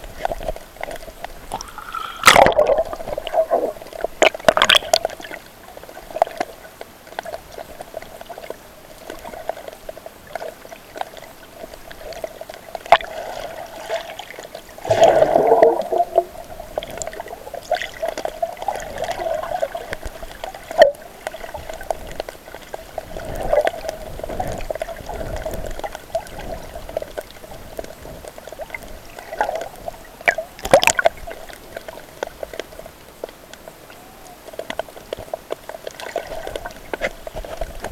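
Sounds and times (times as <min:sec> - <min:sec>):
water gurgling underwater: 0:00.0 - 0:32.8, 0:35.8 - 0:37.9
bubbling gushes: 0:00.0 - 0:37.9.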